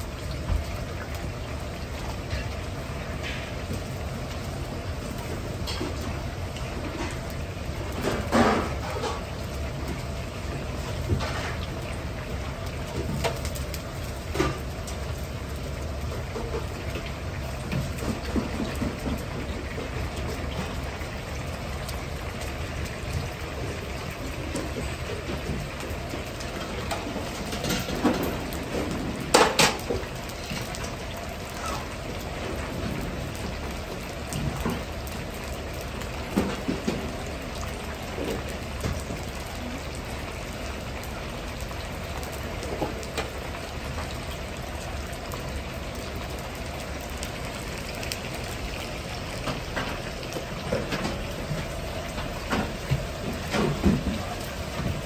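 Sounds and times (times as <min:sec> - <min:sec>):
chicken deep-frying in oil: 0:00.0 - 0:55.0
gas burner roar: 0:00.0 - 0:55.0.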